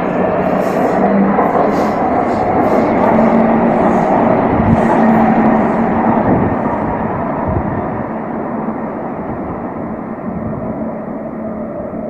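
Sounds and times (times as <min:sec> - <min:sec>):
train running in tunnel: 0:00.0 - 0:12.0.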